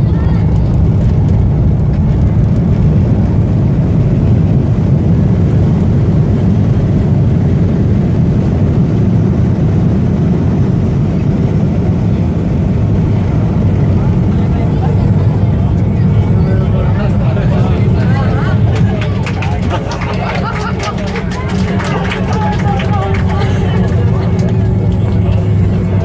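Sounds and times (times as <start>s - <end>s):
airplane cabin engine rumble: 0.0s - 26.0s.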